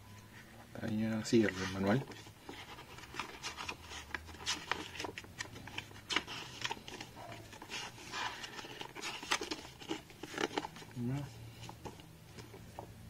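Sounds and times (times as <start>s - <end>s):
pages being flipped: 0.8s - 12.9s.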